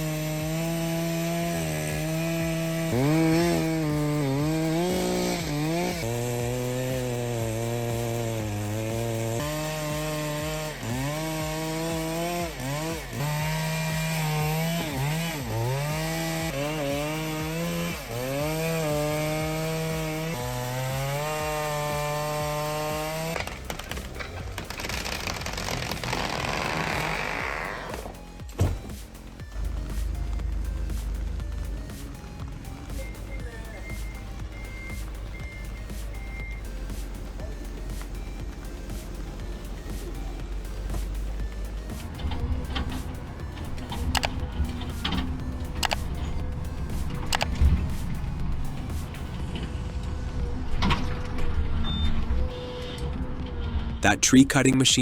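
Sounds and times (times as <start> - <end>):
chainsaw cutting wood: 0.0 - 50.1.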